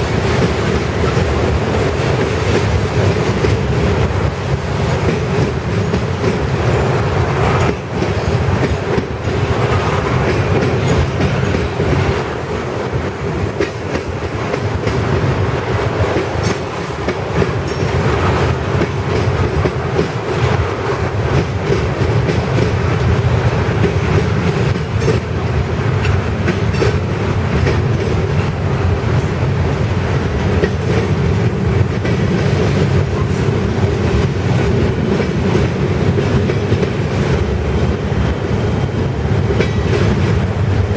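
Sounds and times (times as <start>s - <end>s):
freight train cars rumbling: 0.0s - 40.9s.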